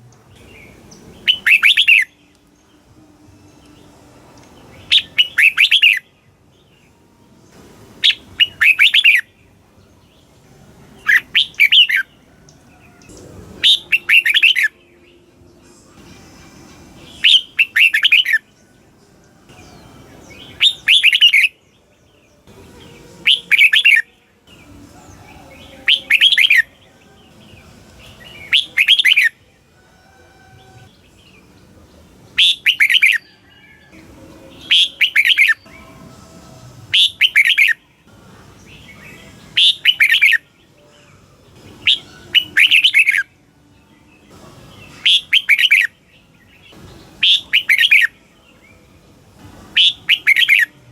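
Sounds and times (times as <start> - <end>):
bird warbling song: 0.0 - 6.9, 8.0 - 10.3, 11.0 - 18.7, 19.4 - 29.5, 32.3 - 48.8, 49.6 - 50.9.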